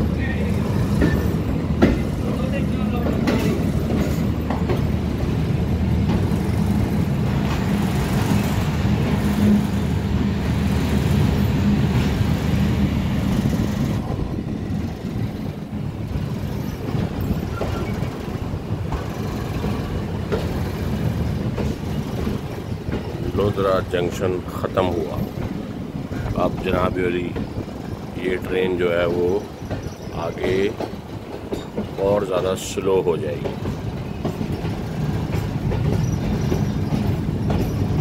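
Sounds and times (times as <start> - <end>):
train running inside carriage: 0.0 - 38.0.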